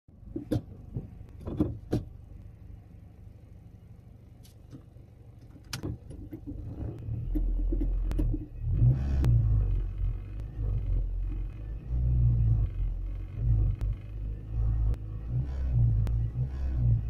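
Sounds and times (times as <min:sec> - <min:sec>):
car engine idling: 0:00.1 - 0:17.0
engine low rumble: 0:00.1 - 0:17.0.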